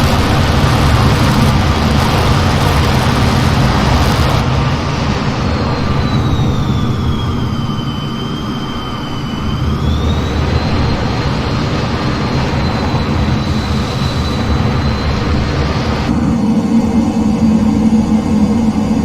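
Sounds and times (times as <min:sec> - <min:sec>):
high engine whine: 0:00.0 - 0:19.0
jet engines in flight: 0:00.0 - 0:19.0.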